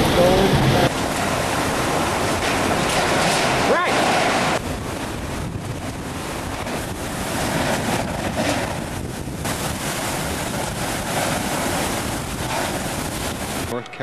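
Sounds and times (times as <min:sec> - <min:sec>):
heavy surf: 0:00.0 - 0:14.0
wind buffeting microphone: 0:00.0 - 0:14.0.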